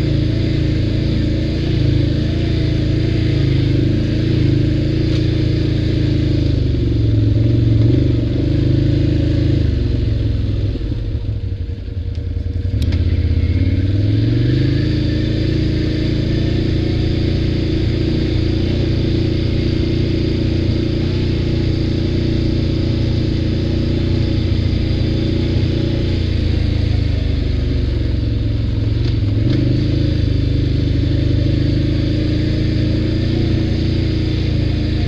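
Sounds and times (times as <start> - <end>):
quad bike engine running: 0.0 - 35.0.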